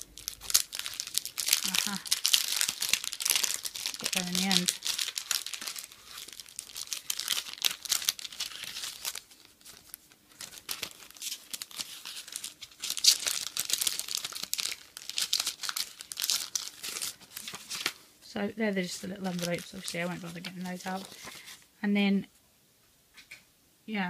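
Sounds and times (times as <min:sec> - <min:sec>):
plastic packet crinkling: 0:00.0 - 0:18.0, 0:18.8 - 0:21.6.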